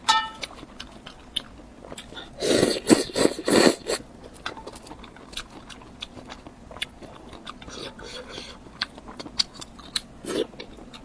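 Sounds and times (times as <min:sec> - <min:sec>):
bites and chews: 0:00.4 - 0:11.0.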